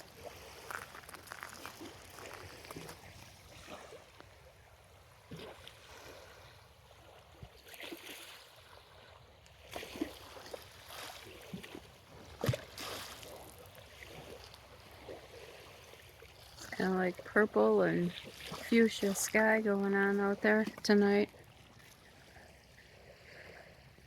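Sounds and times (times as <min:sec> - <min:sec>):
small waves lapping: 0:00.0 - 0:24.0.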